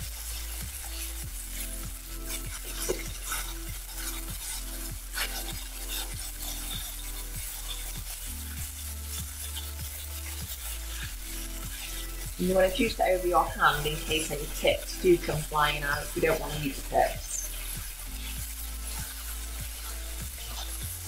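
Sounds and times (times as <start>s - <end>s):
oil sizzling in frying pans: 0.0s - 21.0s
soft background music with beat: 0.0s - 21.0s.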